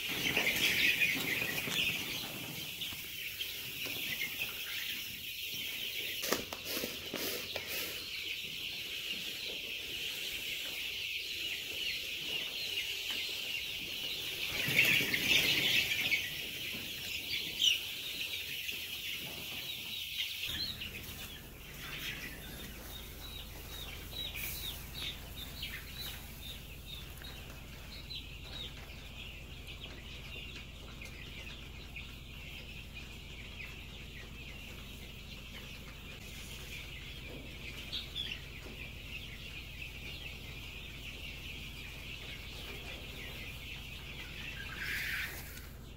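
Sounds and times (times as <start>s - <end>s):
chicks peeping and cheeping: 0.0s - 45.9s.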